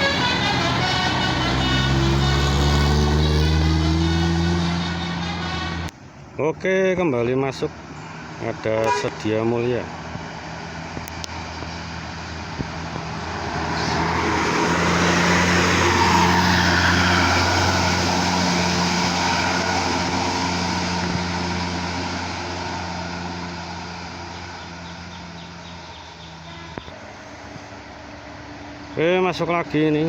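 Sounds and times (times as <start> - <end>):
bus diesel engine driving past: 0.0 - 6.2, 7.3 - 30.0.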